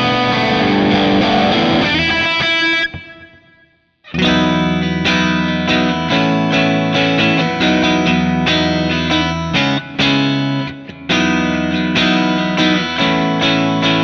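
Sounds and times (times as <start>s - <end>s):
electric guitar strumming chords: 0.0s - 14.0s.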